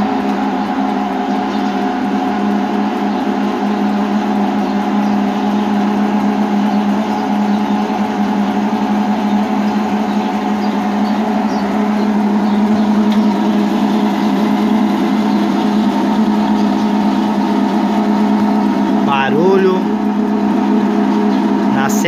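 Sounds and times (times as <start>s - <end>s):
drain pump droning growl: 0.0s - 22.0s.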